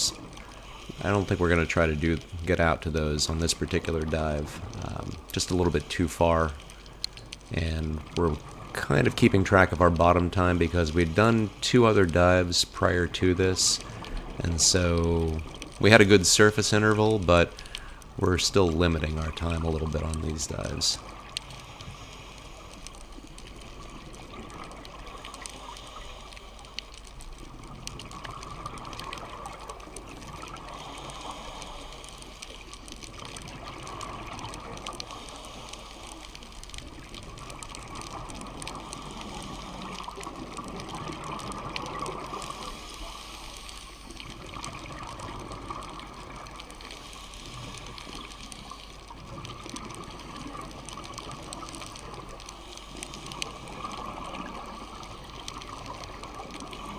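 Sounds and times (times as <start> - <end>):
muffled underwater hiss and rumble: 0.0 - 56.9.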